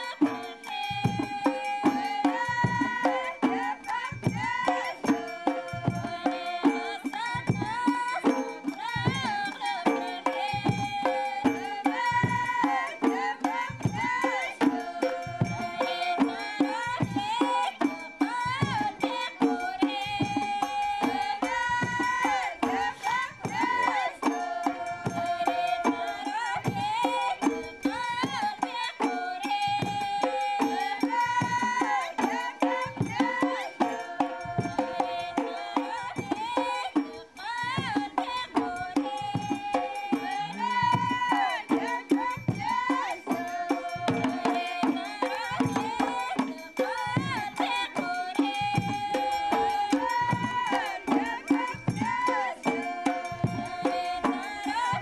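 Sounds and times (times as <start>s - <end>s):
melody over percussion beat: 0.0s - 55.0s.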